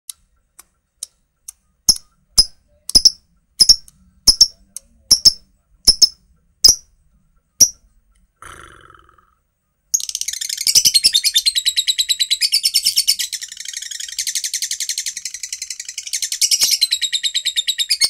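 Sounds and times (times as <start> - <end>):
bird chirping: 0.5 - 8.3, 8.9 - 18.0.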